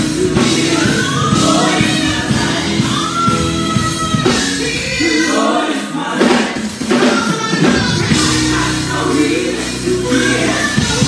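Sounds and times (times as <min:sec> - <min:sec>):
backing music: 0:00.0 - 0:11.0
women singing gospel: 0:00.0 - 0:11.0.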